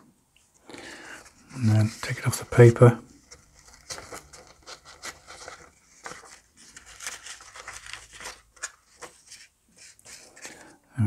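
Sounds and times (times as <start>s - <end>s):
paper crackling and tearing: 1.4s - 10.7s.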